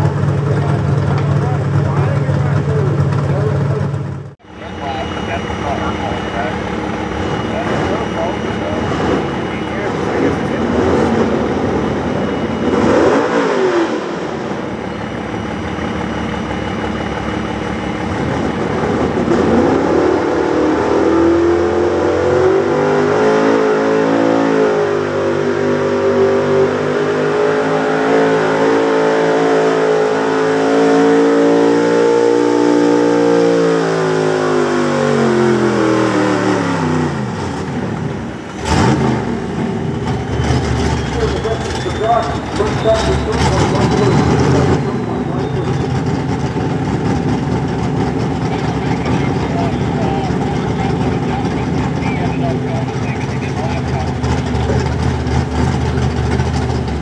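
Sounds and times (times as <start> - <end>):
truck engine at full throttle: 0.0 - 57.0.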